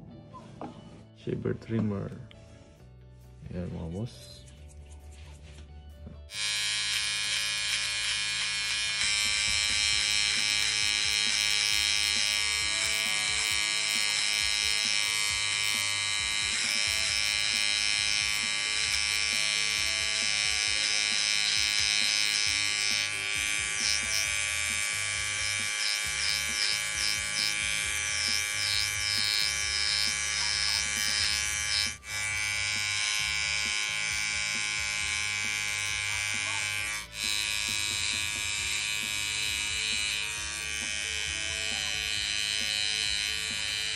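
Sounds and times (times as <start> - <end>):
electric trimmer buzzing: 6.3 - 43.9.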